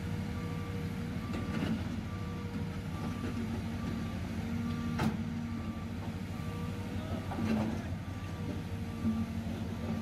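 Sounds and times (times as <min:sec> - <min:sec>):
excavator diesel engine rumble: 0:00.0 - 0:10.0.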